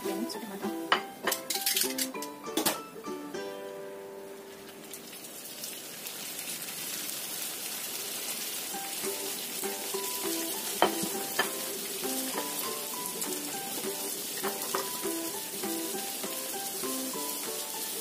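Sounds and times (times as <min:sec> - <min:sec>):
oil sizzling: 0:00.0 - 0:18.0.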